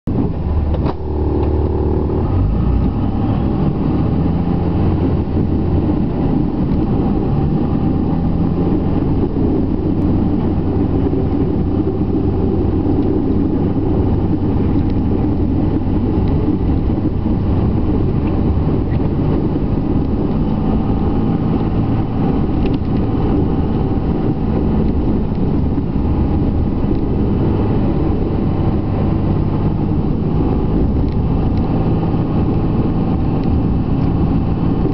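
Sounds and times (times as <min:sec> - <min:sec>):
diesel pickup engine under load: 0:00.1 - 0:34.9.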